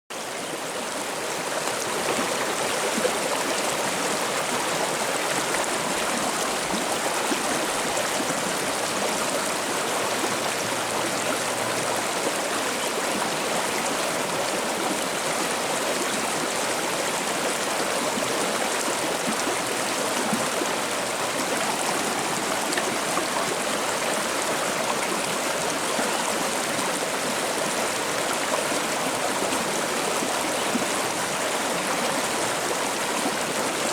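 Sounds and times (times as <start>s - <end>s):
river water babbling and splashing: 0.1s - 33.9s.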